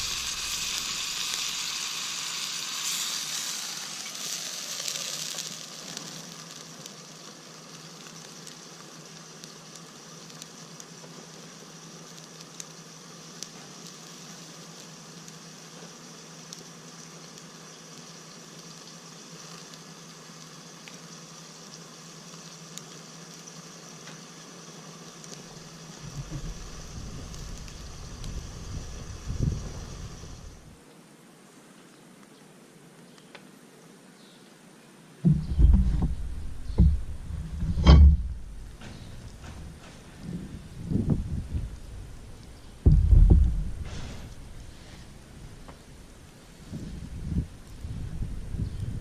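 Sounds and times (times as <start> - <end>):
food sizzling in hot oil: 0.0 - 30.8, 35.3 - 49.0
small crackles: 0.0 - 30.9, 35.2 - 49.0.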